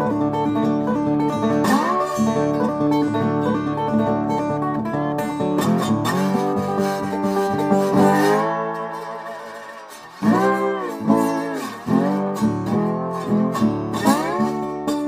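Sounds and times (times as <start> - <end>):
guitar with sliding notes: 0.0 - 15.0.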